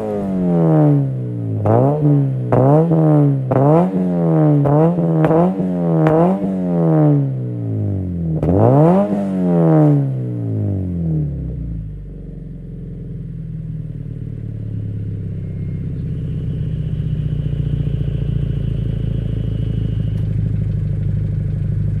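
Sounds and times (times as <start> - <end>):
car engine idling: 0.0 - 8.8, 10.2 - 22.0.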